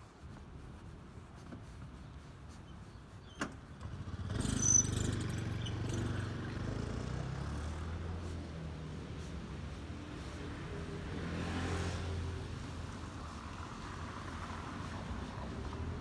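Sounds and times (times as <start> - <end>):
faint street background: 0.0 - 16.0.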